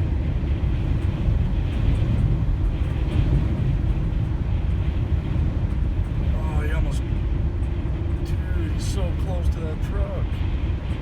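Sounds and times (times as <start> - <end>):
wind and road noise rumble: 0.0 - 11.0.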